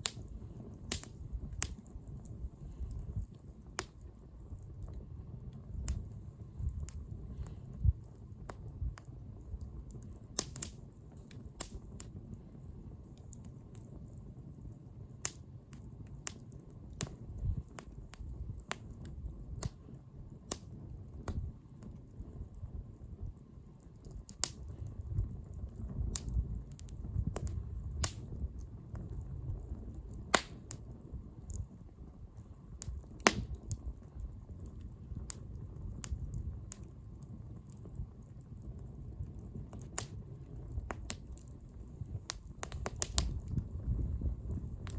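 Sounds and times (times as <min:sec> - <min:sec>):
bonfire crackling and popping: 0:00.0 - 0:44.9
low uneven fire rumble: 0:00.0 - 0:44.9.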